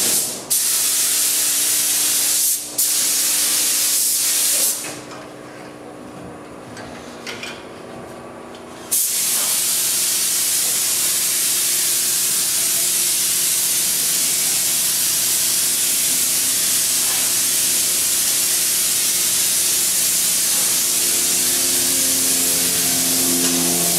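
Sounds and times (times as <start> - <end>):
spray gun hissing: 0.0 - 4.8, 8.9 - 23.9.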